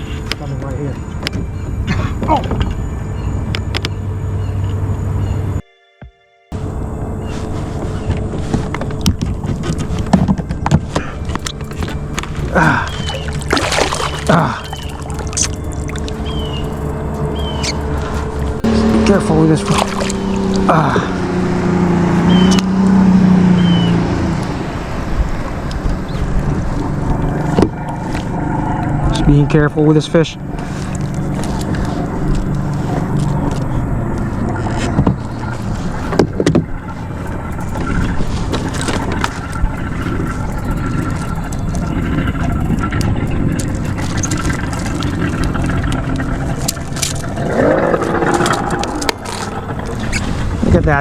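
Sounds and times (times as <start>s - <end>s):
motor engine humming: 0.0s - 5.6s, 6.5s - 51.0s.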